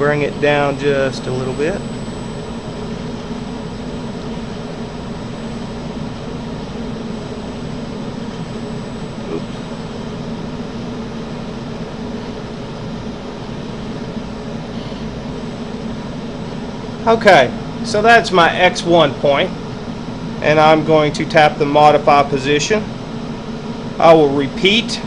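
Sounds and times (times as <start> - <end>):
fan-like machine hum: 0.0 - 25.0.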